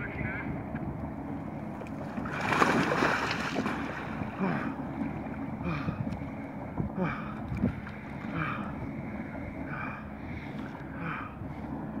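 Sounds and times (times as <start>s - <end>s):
water sloshing: 1.0s - 11.8s.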